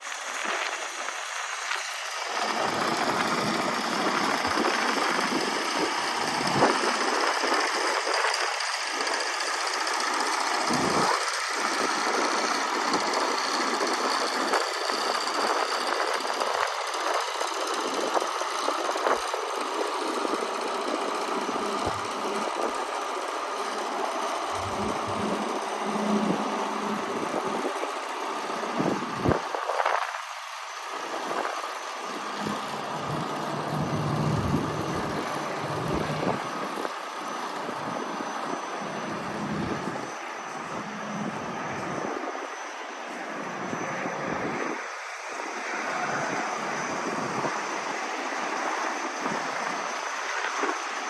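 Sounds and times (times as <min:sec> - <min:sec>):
diesel truck engine idling: 0:01.2 - 0:29.4, 0:30.6 - 0:49.9.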